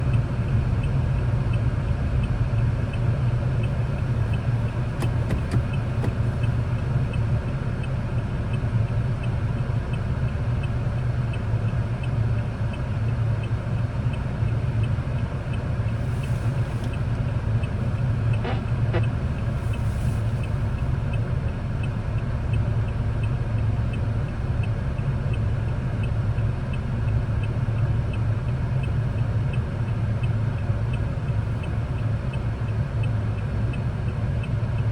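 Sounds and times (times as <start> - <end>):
car engine and road hum: 0.0 - 34.9
faint regular ticking: 0.1 - 34.8.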